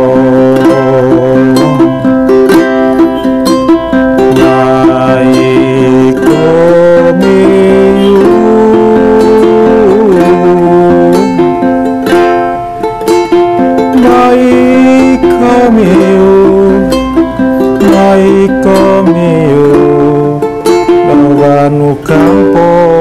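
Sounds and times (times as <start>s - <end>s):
sliding sustained melody: 0.0s - 23.0s
ukulele playing: 0.0s - 23.0s.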